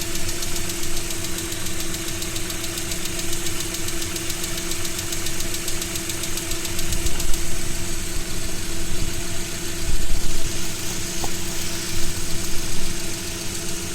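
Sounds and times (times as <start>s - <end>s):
engine idling with knock: 0.0s - 13.9s.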